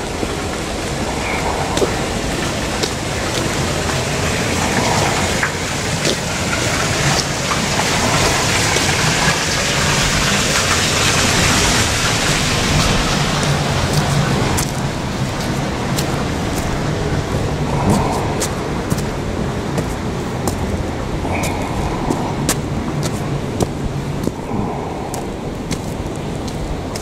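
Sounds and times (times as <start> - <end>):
tyres hissing on wet road: 0.0 - 27.0.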